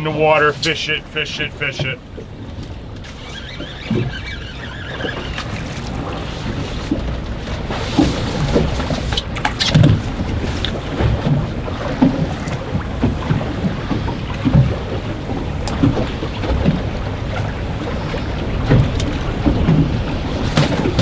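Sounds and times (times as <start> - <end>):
waves slapping boat hull: 0.0 - 21.0
wind buffeting microphone: 1.7 - 21.0.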